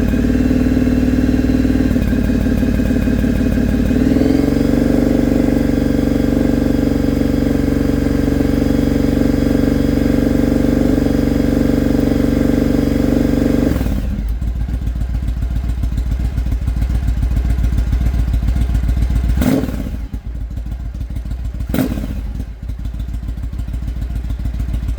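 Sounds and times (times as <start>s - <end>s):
motorcycle engine revving and idling: 0.0s - 24.9s.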